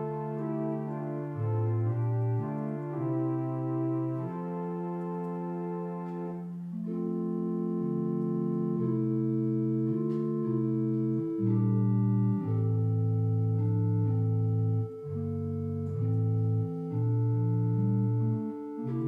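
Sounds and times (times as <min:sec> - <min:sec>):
organ playing sustained chords: 0:00.0 - 0:19.0.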